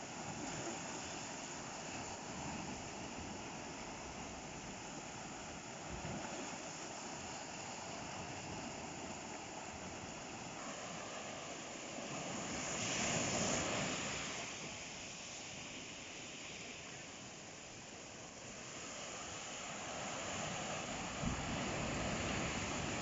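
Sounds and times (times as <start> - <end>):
ocean surf washing on shore: 0.0 - 23.0.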